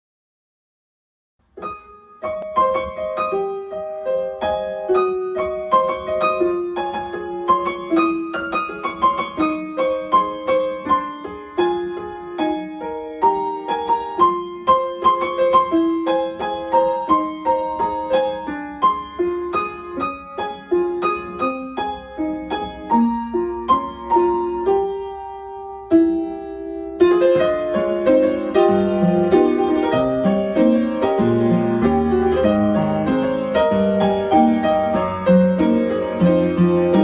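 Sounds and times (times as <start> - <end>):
upright piano playing fast notes: 1.6 - 37.0.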